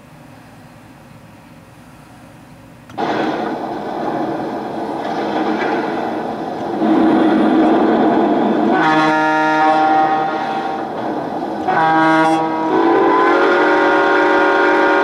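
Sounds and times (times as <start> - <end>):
simulated steam hiss: 2.9 - 15.0.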